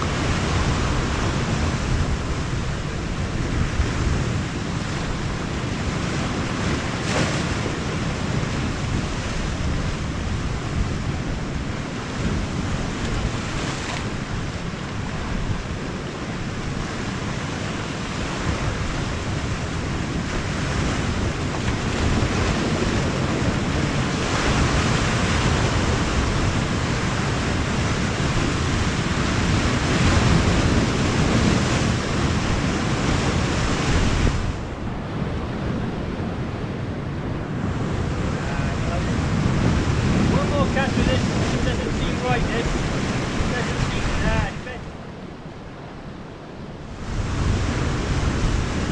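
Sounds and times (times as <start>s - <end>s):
sea waves breaking on shore: 0.0s - 48.9s
wind buffeting microphone: 0.0s - 48.9s.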